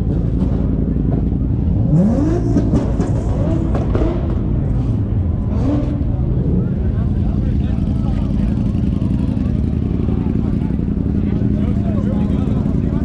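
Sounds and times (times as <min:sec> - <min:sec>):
car engine revving: 0:00.0 - 0:13.0
car engines rumbling: 0:00.0 - 0:13.0.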